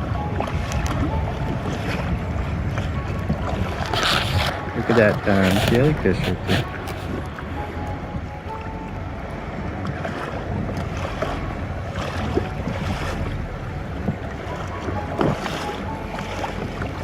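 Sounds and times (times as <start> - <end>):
paddle splashing in water: 0.0 - 17.0
wind on microphone: 0.0 - 17.0.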